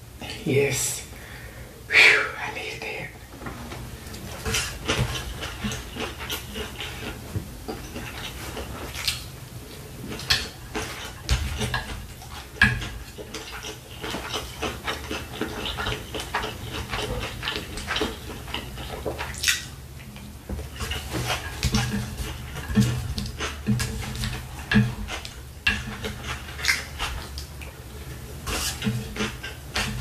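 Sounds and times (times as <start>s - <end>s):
person chewing: 4.1s - 30.0s.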